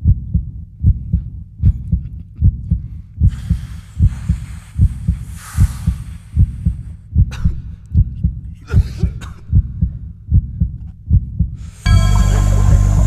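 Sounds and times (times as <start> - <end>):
heartbeat double thump: 0.0 - 13.0.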